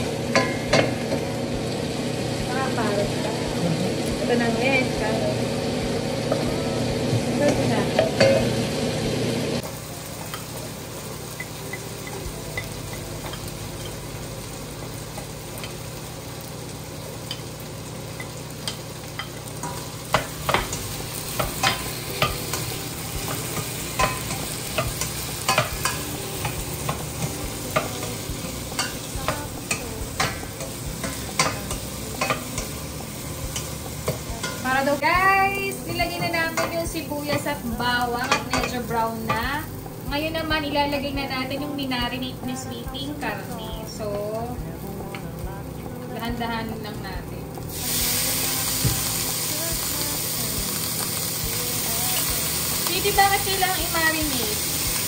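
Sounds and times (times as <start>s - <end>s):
vegetables sizzling in hot oil: 0.0s - 55.0s.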